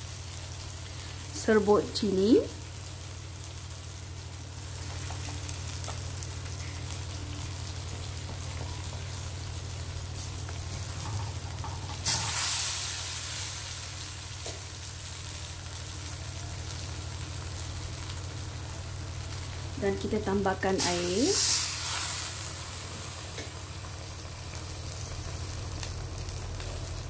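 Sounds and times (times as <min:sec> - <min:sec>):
vegetables sizzling in a pan: 0:00.0 - 0:27.0.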